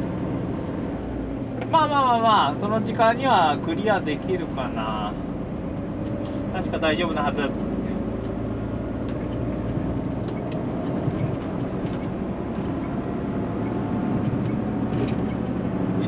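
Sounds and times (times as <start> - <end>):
truck engine and road noise: 0.0 - 16.0.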